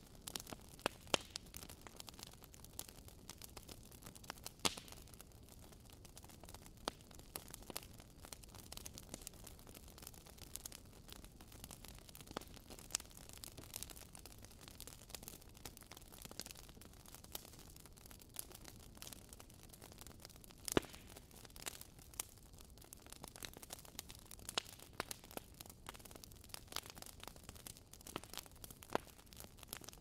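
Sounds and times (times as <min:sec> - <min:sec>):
fire crackling: 0:00.0 - 0:30.0.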